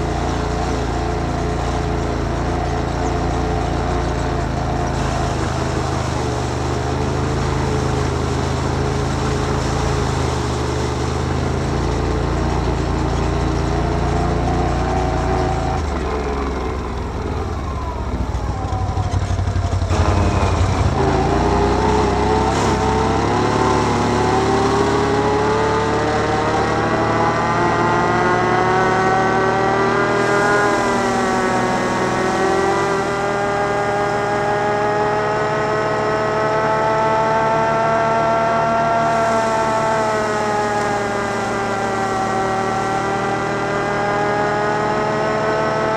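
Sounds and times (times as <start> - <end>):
atv engine accelerating: 0.0 - 45.9.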